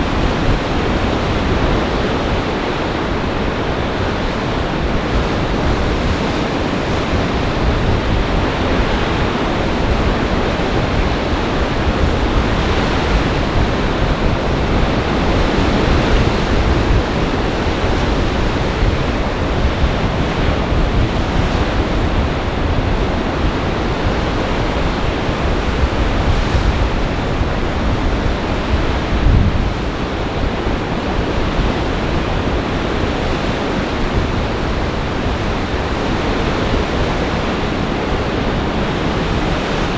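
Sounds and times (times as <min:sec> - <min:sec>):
storm surf breaking: 0:00.0 - 0:39.9
wind gusts buffeting microphone: 0:00.0 - 0:39.9.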